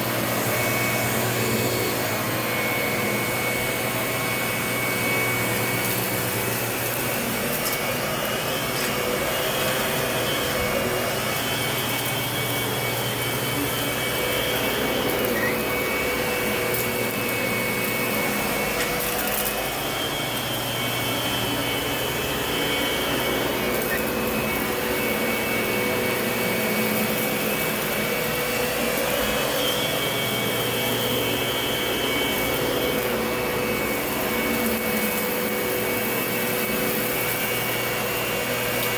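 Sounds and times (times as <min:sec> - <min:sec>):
high whine: 0:00.0 - 0:38.9
vacuum cleaner running: 0:00.0 - 0:38.9.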